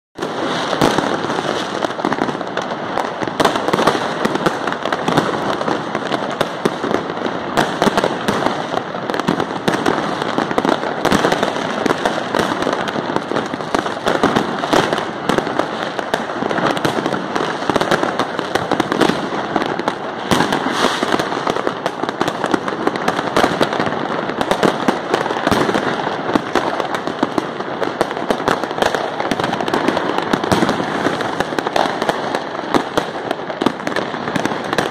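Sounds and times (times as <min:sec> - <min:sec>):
firecrackers popping and banging: 0:00.2 - 0:34.9.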